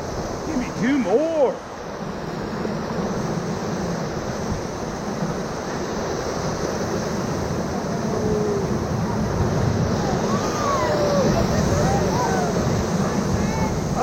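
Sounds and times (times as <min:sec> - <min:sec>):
river whitewater rushing: 0:00.0 - 0:14.0.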